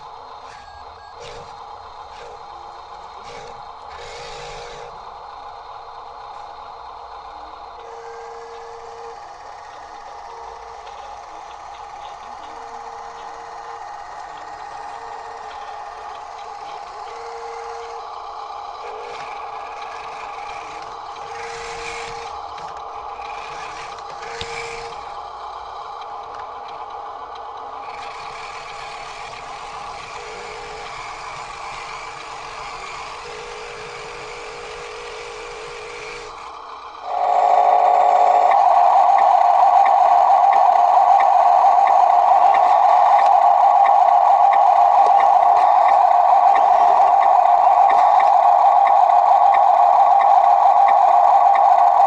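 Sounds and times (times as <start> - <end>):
synthesized engine hum: 0.0 - 52.0
loud electronic drone: 7.8 - 52.0.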